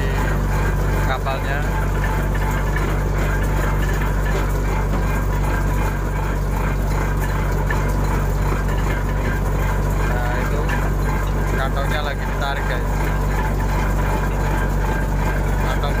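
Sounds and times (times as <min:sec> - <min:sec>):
boat engine low drone: 0:00.0 - 0:16.0.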